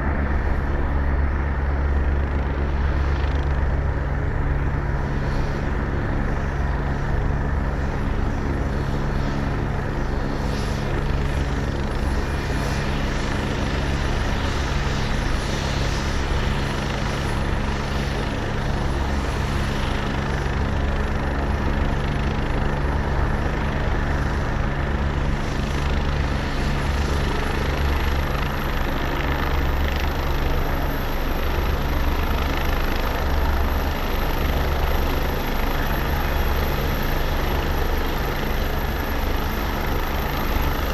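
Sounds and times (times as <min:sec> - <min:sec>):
helicopter rotor throbbing: 0:00.0 - 0:40.9.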